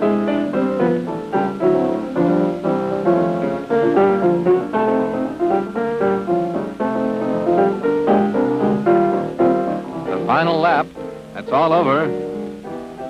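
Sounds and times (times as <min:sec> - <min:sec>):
brisk piano music: 0:00.0 - 0:13.0.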